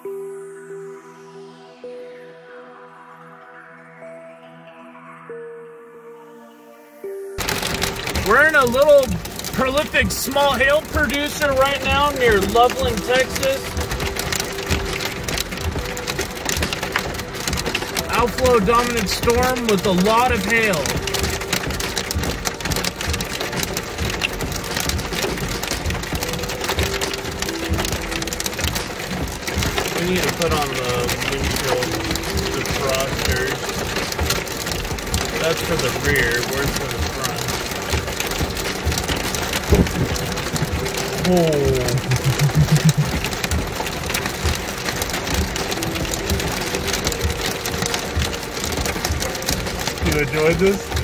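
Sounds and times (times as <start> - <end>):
hail and rain on car roof: 7.4 - 51.0.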